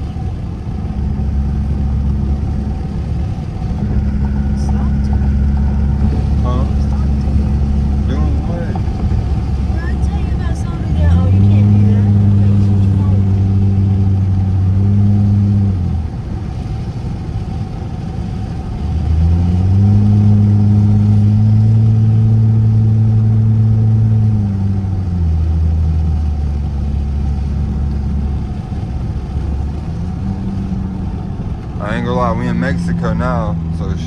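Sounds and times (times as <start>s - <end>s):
car exhaust droning: 0.0s - 34.0s.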